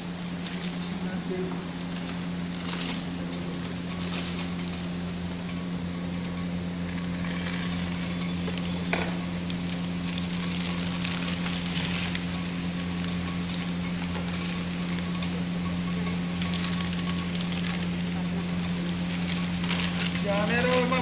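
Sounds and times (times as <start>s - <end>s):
plastic packets rustling and crinkling: 0.0s - 21.0s
steady low hum: 0.0s - 21.0s.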